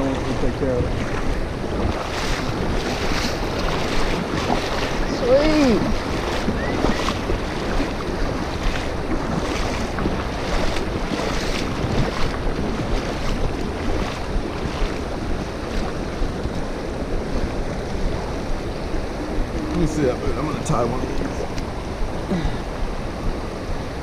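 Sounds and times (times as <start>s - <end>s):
stream rushing over rocks: 0.0s - 24.0s
wind buffeting microphone: 0.0s - 24.0s.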